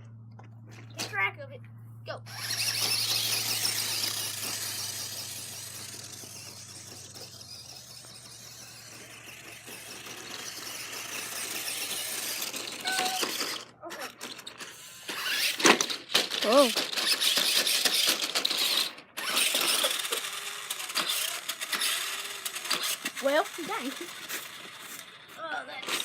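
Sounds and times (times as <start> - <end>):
rc car motor whirring: 2.1 - 26.0.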